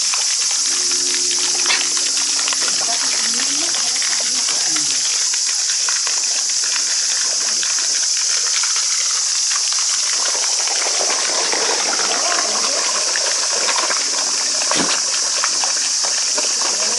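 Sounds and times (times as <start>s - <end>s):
fish splashing and slurping: 0.0s - 16.9s
steady high hiss: 0.0s - 16.9s.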